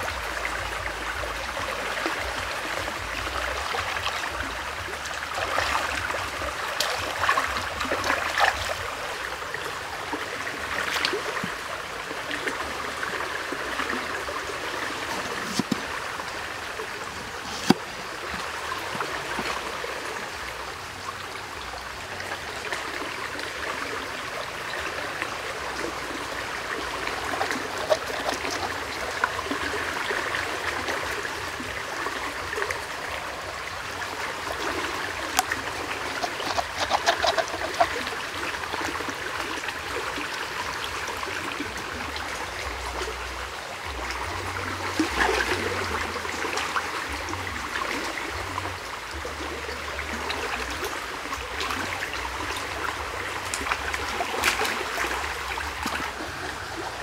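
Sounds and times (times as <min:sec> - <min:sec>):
shallow stream flowing: 0:00.0 - 0:57.0.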